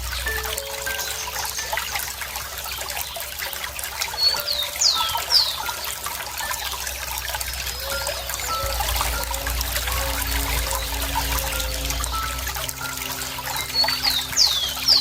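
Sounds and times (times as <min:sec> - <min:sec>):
bird chirping: 0:00.0 - 0:15.0
water trickling: 0:00.0 - 0:15.0.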